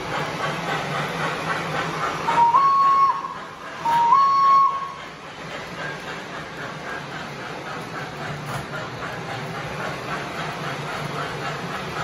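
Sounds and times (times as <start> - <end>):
model train motor and wheels: 0.0 - 12.0.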